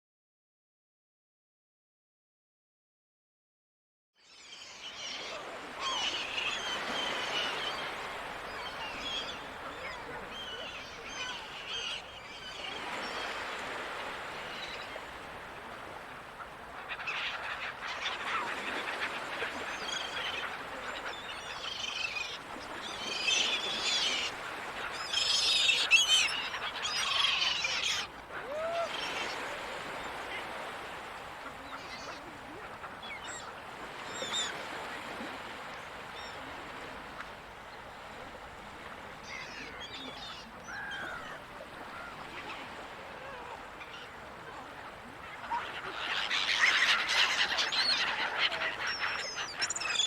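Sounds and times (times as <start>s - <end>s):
seagulls calling: 4.7s - 37.1s, 38.0s - 50.0s.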